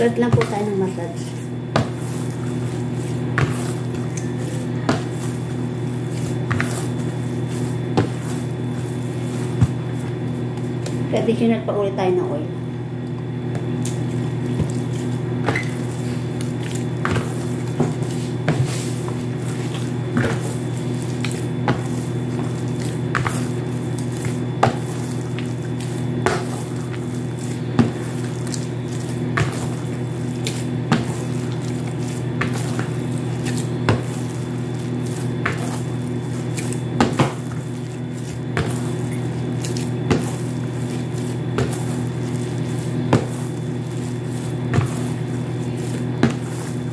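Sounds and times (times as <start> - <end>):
dough squishing and slapping: 0.0 - 12.2, 12.8 - 46.9.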